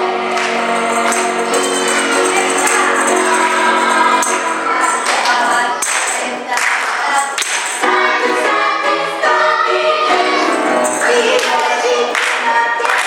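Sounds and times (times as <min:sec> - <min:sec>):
percussion beat: 0:00.0 - 0:08.5, 0:10.3 - 0:13.0
gospel choir singing: 0:00.0 - 0:13.0.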